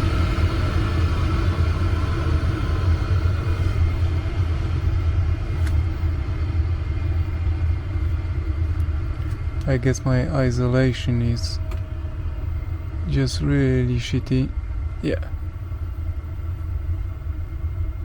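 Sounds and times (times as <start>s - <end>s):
heater burner and blower rumble: 0.0s - 18.0s.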